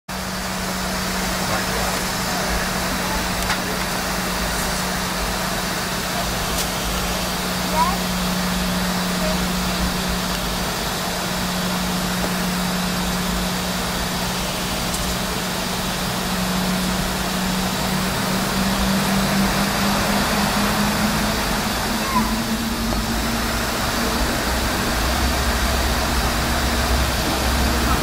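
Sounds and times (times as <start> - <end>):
jet engines humming: 0.1 - 28.0.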